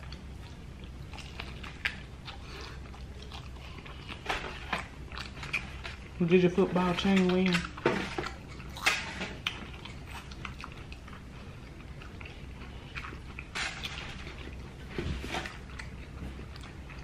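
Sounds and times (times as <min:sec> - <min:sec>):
chewing crunchy fried chicken: 0:00.0 - 0:17.0.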